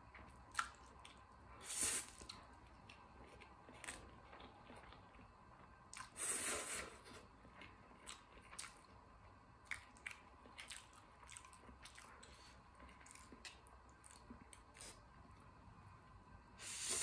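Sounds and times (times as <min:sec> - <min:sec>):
person chewing noodles: 0:00.1 - 0:09.0, 0:09.6 - 0:15.0.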